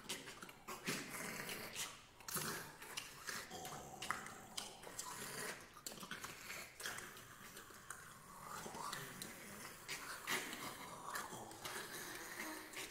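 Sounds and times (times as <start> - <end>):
breath noises: 0.0 - 12.9
mouth clicks: 0.0 - 12.9.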